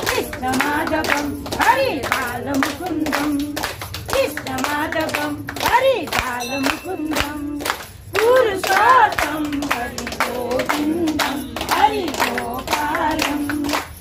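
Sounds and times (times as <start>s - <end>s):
hands clapping in steady beat: 0.0s - 14.0s
person singing devotional song: 0.0s - 14.0s.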